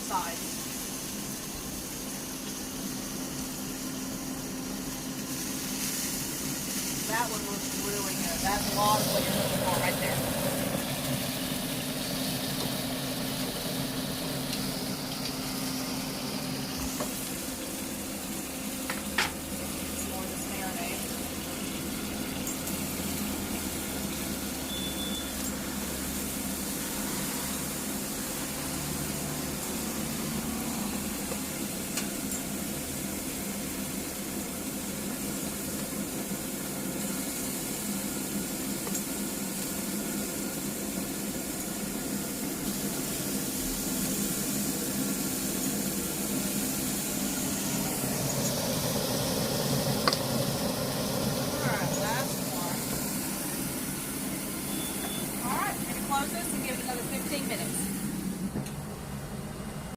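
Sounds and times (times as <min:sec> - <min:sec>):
chicken sizzling on grill: 0:00.0 - 0:58.5
grill mechanical hum: 0:00.0 - 0:59.9.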